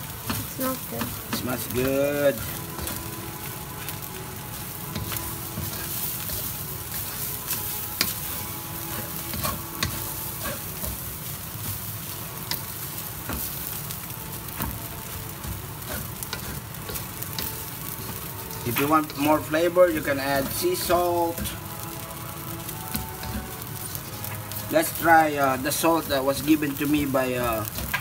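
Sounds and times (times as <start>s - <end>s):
rice sizzling in a pan: 0.0s - 28.0s
wooden spatula scraping: 0.1s - 28.0s.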